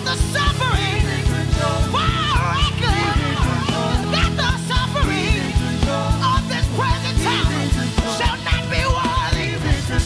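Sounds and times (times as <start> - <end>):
bass line: 0.0 - 10.0
live gospel band: 0.0 - 10.0
people singing: 0.0 - 10.0.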